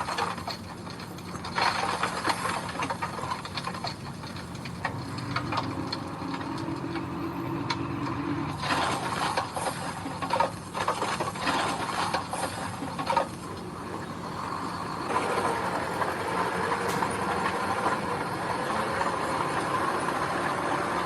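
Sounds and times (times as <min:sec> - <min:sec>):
tracks clanking on gravel: 0:00.0 - 0:20.8
diesel engine running: 0:00.0 - 0:21.0
engine whine: 0:00.0 - 0:21.0.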